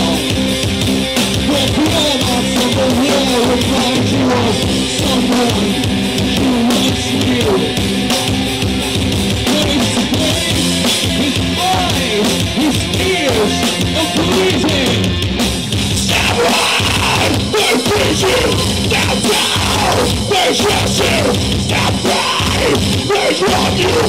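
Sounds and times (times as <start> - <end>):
bass guitar: 0.0 - 24.0
drum kit: 0.0 - 24.0
electric guitars: 0.0 - 24.0
rock band playing loudly: 0.0 - 24.0.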